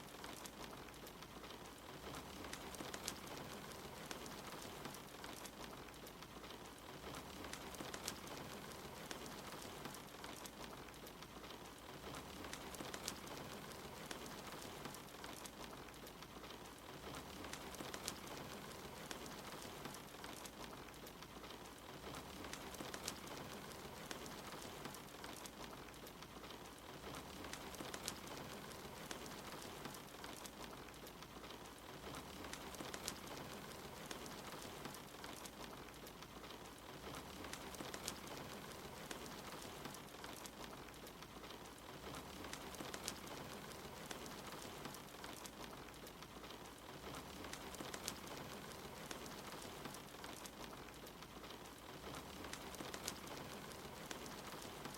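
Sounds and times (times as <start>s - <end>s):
soft rain: 0.0s - 54.9s
wood fire crackling: 0.0s - 54.9s.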